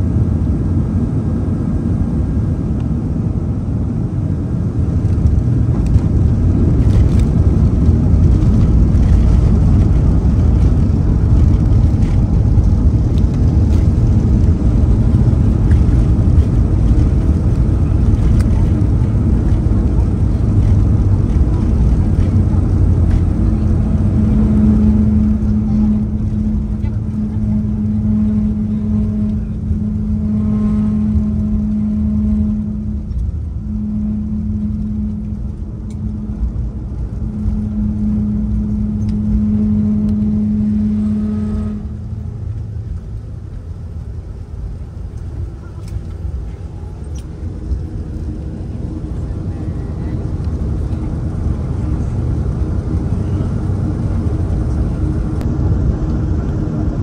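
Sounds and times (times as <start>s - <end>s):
aircraft engine and airflow rumble: 0.0s - 57.0s
low droning hum: 0.0s - 57.0s.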